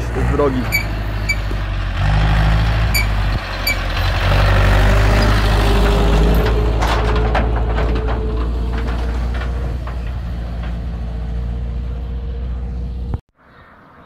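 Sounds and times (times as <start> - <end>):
metal trailer rattling: 0.0 - 12.6
tractor diesel engine passing: 0.0 - 13.2.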